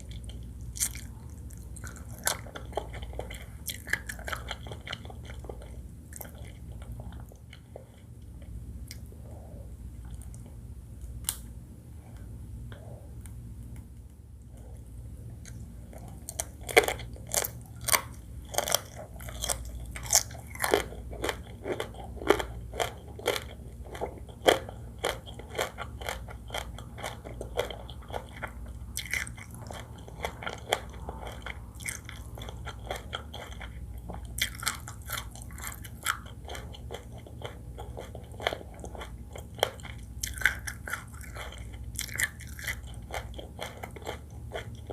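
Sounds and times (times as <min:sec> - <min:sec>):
crunchy chewing: 0:00.0 - 0:09.1, 0:14.4 - 0:44.9.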